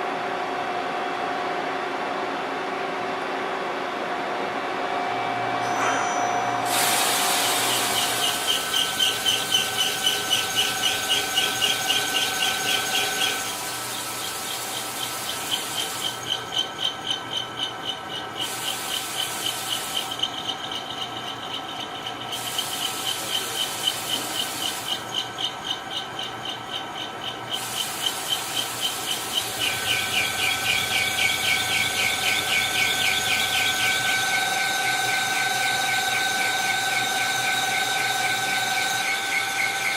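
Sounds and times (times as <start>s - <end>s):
machine tools squealing in metal: 5.6s - 39.9s.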